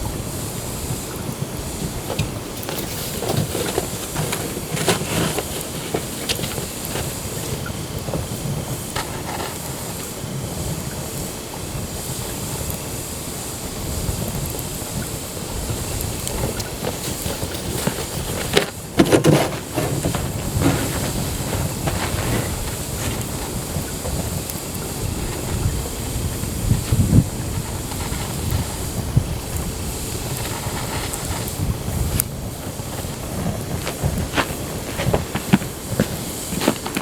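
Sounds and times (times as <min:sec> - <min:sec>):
campfire crackling: 0:00.0 - 0:37.0
wind rumbling on microphone: 0:00.0 - 0:37.0.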